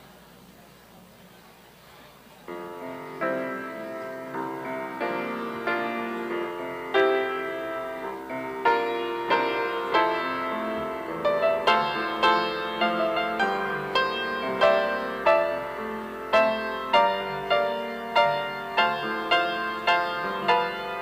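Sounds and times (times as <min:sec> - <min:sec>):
slow piano melody: 0:02.5 - 0:21.0.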